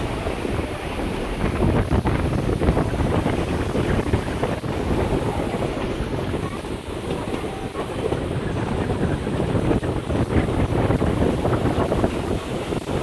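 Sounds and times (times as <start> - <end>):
train running on rails: 0.0 - 13.0
whitewater rapids rushing: 0.0 - 13.0
wind buffeting microphone: 0.0 - 13.0.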